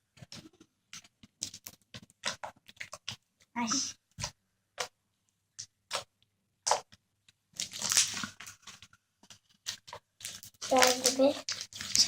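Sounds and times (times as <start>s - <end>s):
slime crackling and popping: 0.3s - 3.3s, 4.2s - 8.9s, 9.6s - 12.0s.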